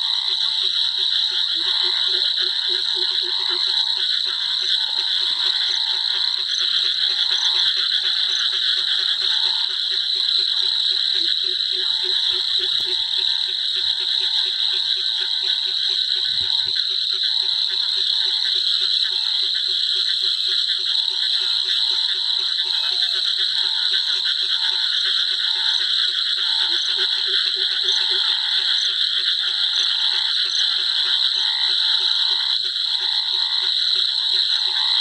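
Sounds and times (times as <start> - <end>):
frog higher call: 0.0 - 35.0
frog low call: 0.0 - 35.0.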